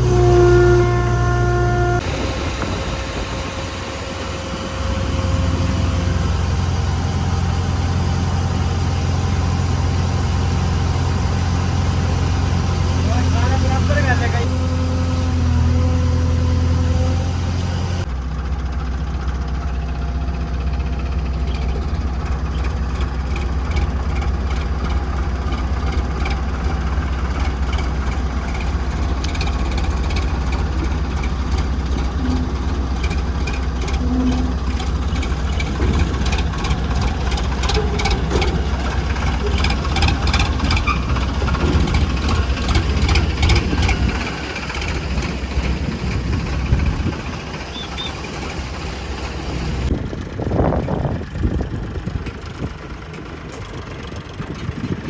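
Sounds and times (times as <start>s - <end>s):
diesel engine clattering: 0.0s - 55.0s.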